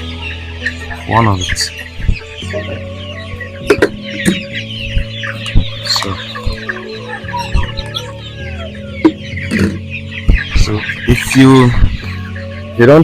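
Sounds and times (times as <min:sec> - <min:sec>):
chicks cheeping and clucking: 0:00.0 - 0:13.0.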